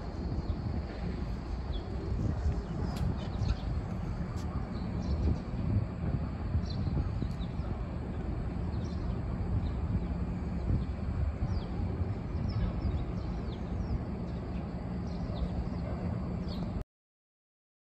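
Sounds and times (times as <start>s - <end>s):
faint machinery hum: 0.0s - 16.8s.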